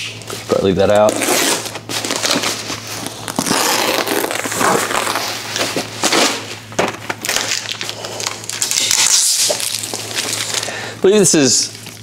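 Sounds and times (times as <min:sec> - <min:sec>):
plastic packaging crinkling: 0:00.3 - 0:10.9.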